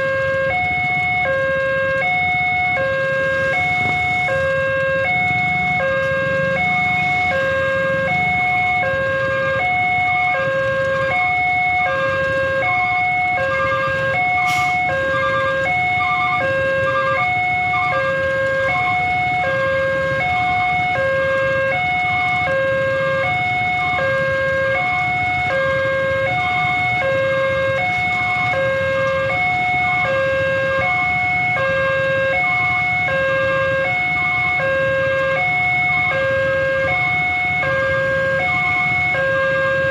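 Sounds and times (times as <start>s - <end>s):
traffic idling: 0.0s - 39.9s
two-tone crossing alarm: 0.0s - 39.9s.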